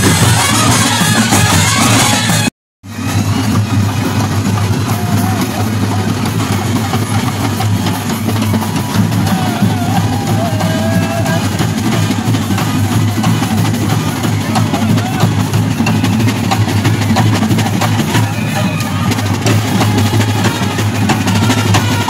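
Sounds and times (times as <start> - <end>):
bass and snare drums beating: 0.0 - 22.0
brass horns melody: 0.0 - 22.0.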